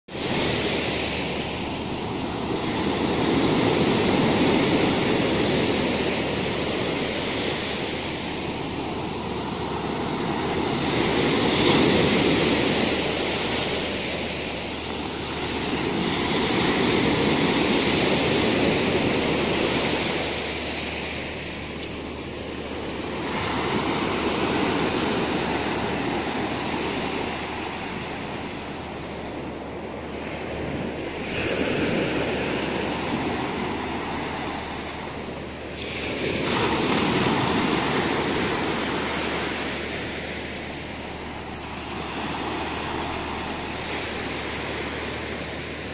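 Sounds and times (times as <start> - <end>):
waves breaking on pebble beach: 0.1 - 45.9.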